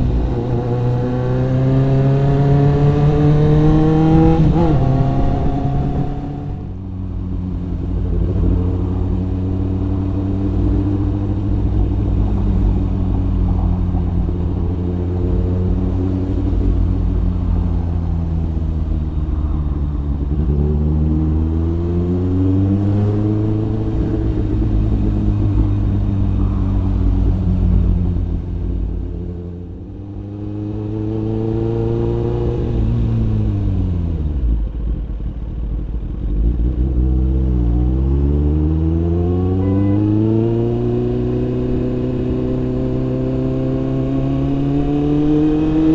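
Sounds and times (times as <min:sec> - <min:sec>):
motorcycle engine revving: 0:00.0 - 0:34.7, 0:35.7 - 0:45.9.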